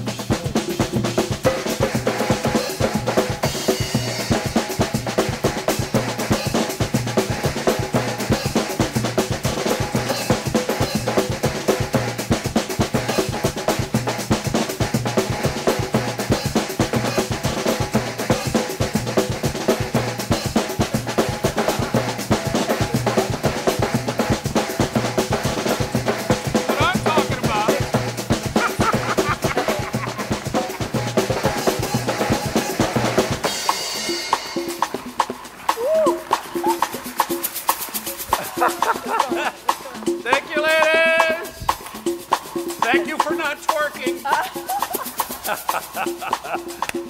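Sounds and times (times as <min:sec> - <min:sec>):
lively dance music: 0:00.0 - 0:47.0.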